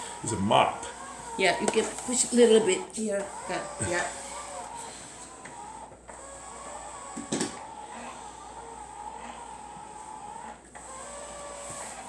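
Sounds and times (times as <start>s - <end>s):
robot mop motor humming: 0.0s - 12.0s.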